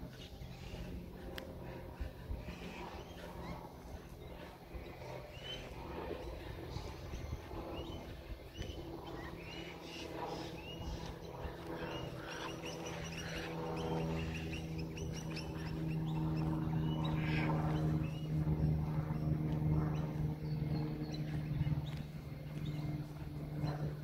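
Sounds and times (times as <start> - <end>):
low engine hum: 0.0 - 24.0
small birds chirping: 0.0 - 24.0.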